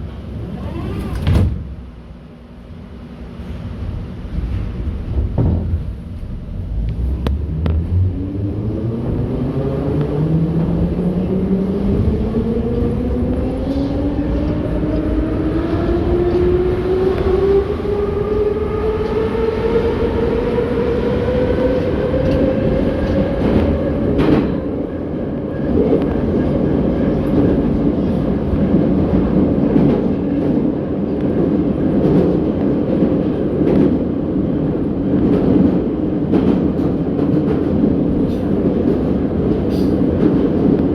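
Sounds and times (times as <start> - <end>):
train running noise: 0.0 - 40.9.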